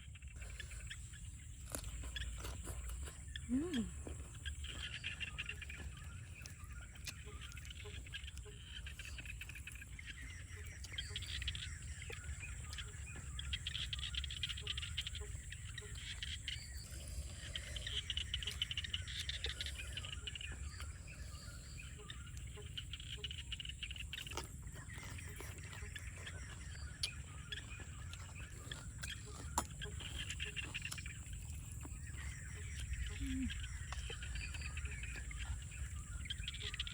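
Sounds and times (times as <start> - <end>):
frogs and insects calling: 0.0 - 36.9.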